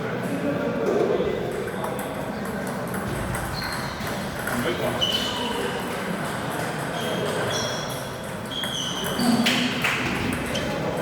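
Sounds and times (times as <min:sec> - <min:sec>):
murmur of distant voices: 0:00.0 - 0:11.0.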